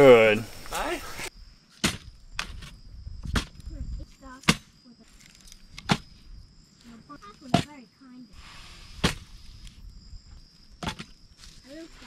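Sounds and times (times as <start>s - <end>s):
campfire crackling: 0.0s - 12.0s
insects trilling: 0.0s - 12.0s.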